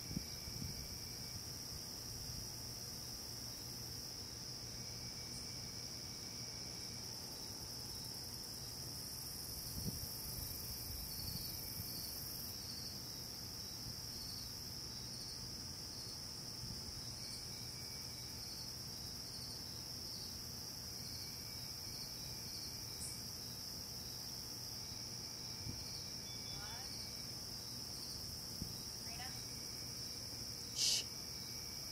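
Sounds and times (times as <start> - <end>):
night insects trilling: 0.0 - 31.9.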